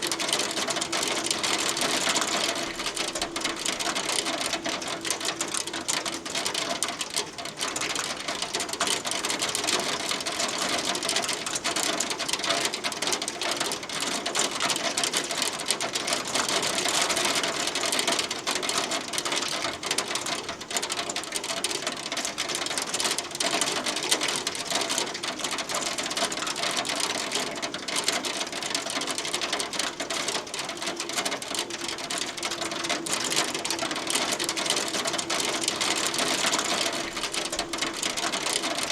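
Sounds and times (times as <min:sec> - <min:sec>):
hail falling: 0:00.0 - 0:38.9.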